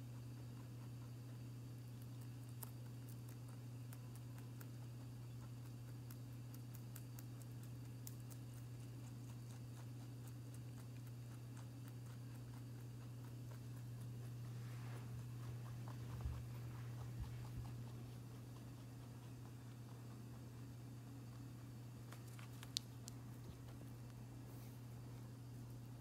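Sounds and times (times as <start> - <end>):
rabbit crunching leaf: 0.0 - 26.0
steady low hum: 0.0 - 26.0.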